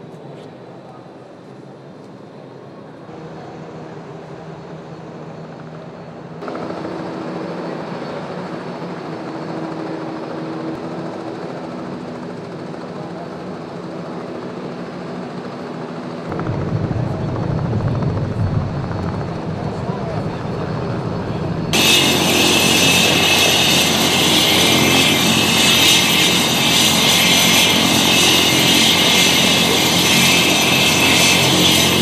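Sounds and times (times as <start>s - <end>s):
helicopter engine drone: 3.2s - 32.0s.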